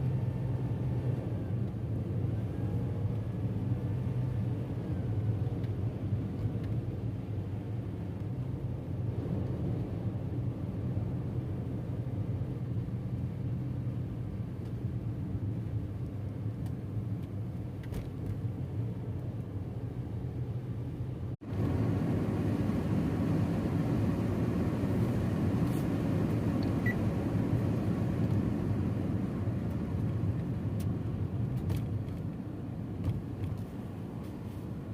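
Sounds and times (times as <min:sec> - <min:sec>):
car driving rumble: 0:00.0 - 0:34.9.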